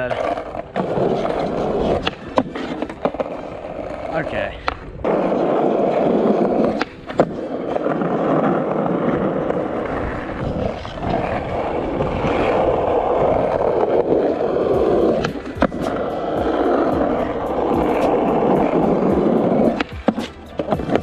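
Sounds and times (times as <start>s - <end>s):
skateboard clacks: 0.0s - 21.0s
skateboard wheels rolling on asphalt: 0.0s - 21.0s.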